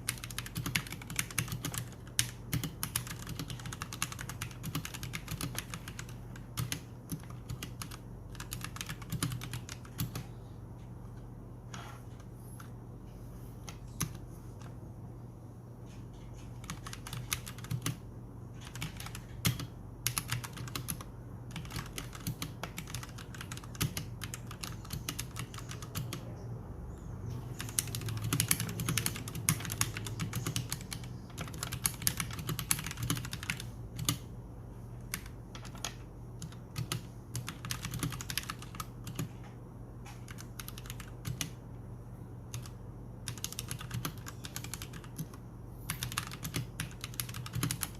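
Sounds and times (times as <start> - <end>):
mechanical keyboard typing: 0.0 - 10.3, 13.6 - 14.8, 16.1 - 18.0, 18.6 - 26.2, 27.5 - 34.3, 35.0 - 39.4, 40.0 - 41.6, 42.5 - 47.9.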